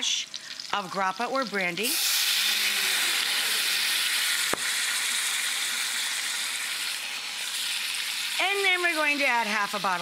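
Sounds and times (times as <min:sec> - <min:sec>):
liquor sizzling in hot fat: 0:00.0 - 0:10.0.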